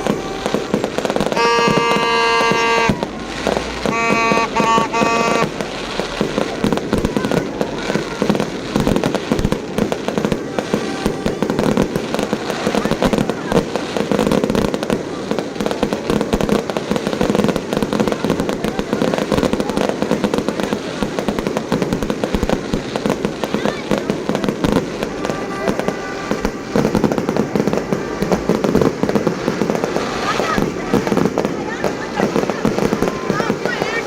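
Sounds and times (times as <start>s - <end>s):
crowd voices: 0.0s - 34.0s
fireworks bangs and crackles: 0.0s - 34.0s.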